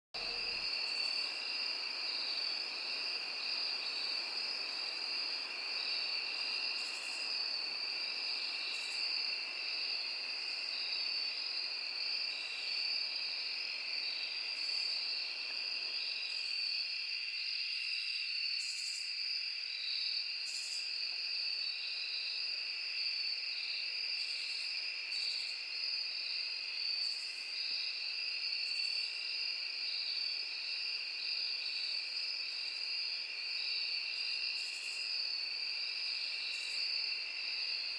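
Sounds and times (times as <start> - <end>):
insects chirring: 0.2 - 37.9.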